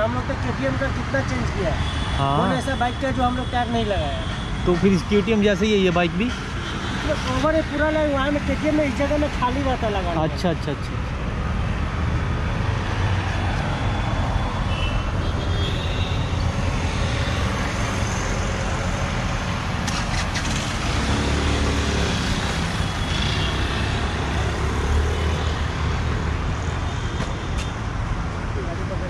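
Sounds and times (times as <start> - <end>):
vehicle engines rumbling: 0.0 - 29.0.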